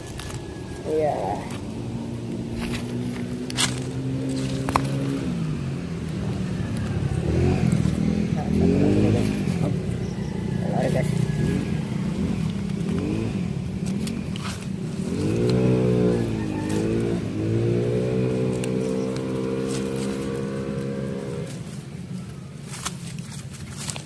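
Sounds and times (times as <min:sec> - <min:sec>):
stones and dry leaves clicking: 0:00.0 - 0:24.0
vehicle engine running: 0:00.0 - 0:24.0.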